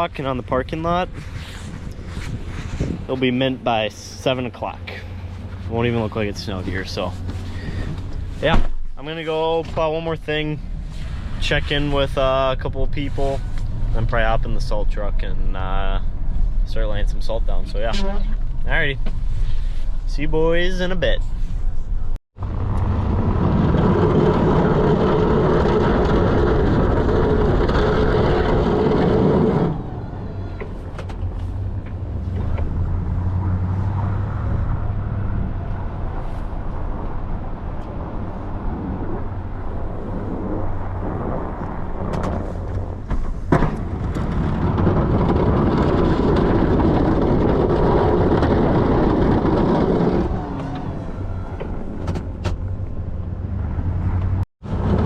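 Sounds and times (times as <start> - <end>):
truck engine and road noise: 0.0 - 55.0.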